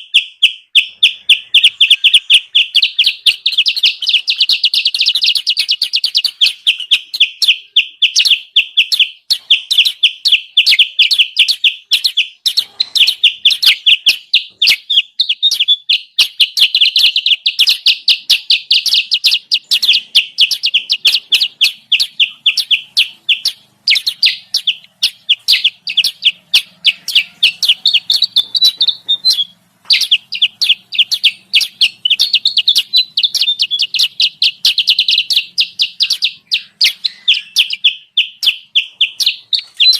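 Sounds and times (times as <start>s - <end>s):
recorded bird chirps: 0.0s - 39.9s.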